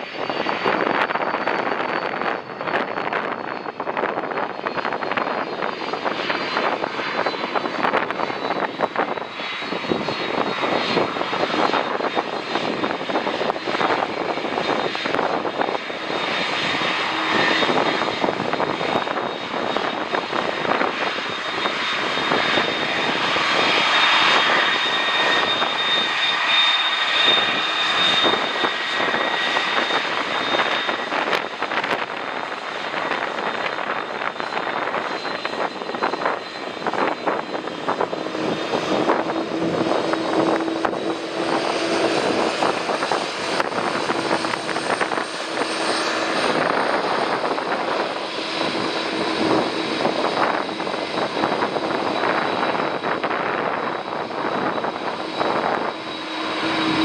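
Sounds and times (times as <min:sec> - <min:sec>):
jet engines whining and roaring: 0:00.0 - 0:57.0
wind buffeting microphone: 0:00.0 - 0:57.0.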